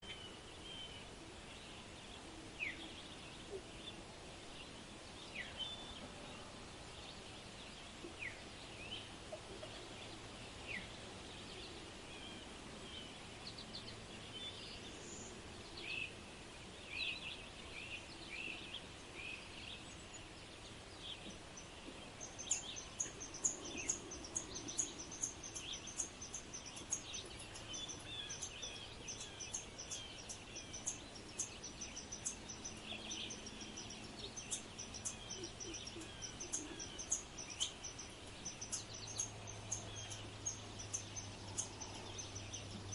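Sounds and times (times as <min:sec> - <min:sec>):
birds calling and chirping: 0:00.0 - 0:42.9.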